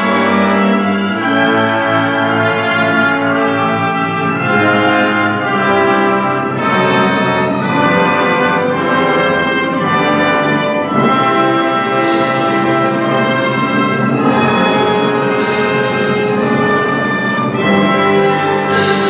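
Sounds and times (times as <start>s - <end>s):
symphony orchestra playing: 0.0s - 19.0s.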